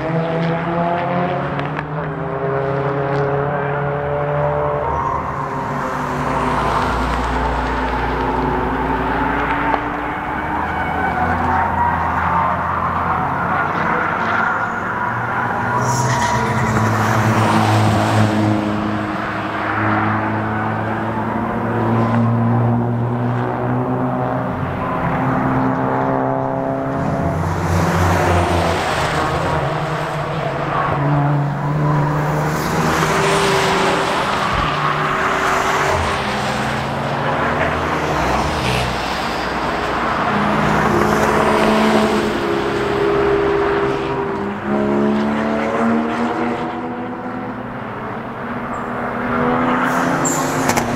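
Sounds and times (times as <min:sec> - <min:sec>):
race car engines accelerating: 0:00.0 - 0:50.9.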